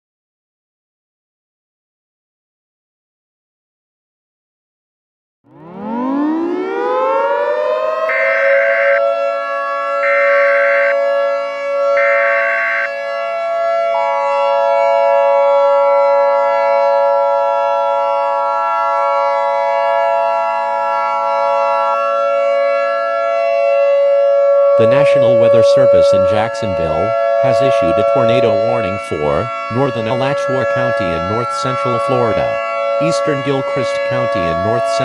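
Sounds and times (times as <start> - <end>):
civil defense siren wailing: 5.5 - 35.0.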